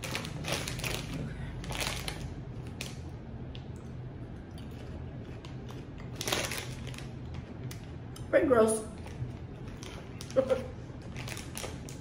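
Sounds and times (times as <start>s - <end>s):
chewing popcorn: 0.0s - 8.3s, 8.9s - 12.0s.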